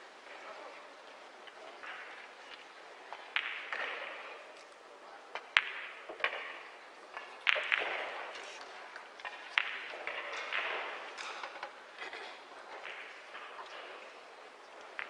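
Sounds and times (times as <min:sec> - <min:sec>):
pool balls clicking: 0:01.3 - 0:15.0.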